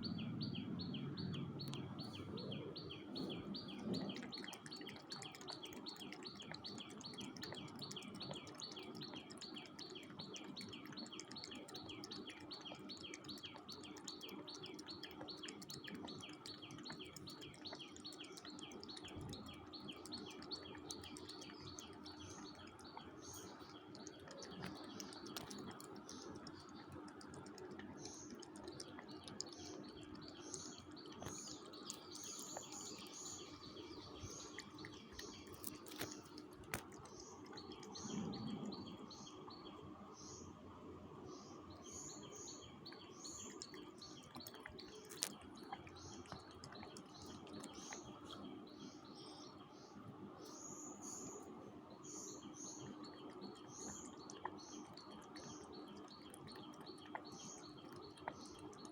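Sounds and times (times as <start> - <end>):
faint steady hum: 0.0 - 58.9
small birds chirping: 0.0 - 58.9.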